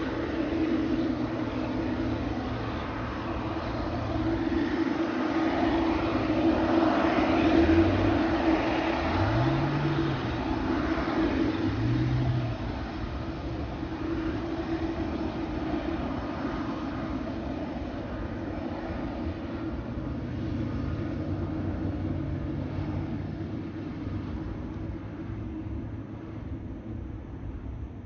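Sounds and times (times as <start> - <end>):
jet engines humming: 0.0 - 28.0.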